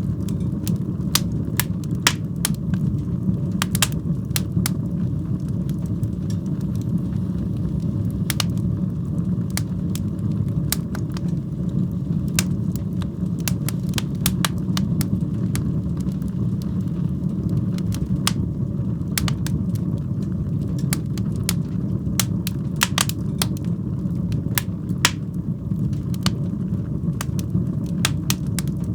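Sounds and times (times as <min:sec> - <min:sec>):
fire crackling and popping: 0:00.0 - 0:28.9
fire flames roaring: 0:00.0 - 0:28.9.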